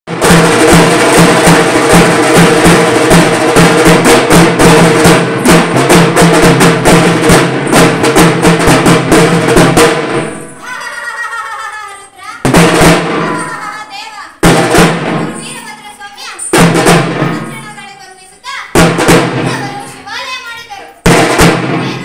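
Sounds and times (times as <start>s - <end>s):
band of drums playing fast rhythm: 0.1s - 11.7s, 12.3s - 22.0s.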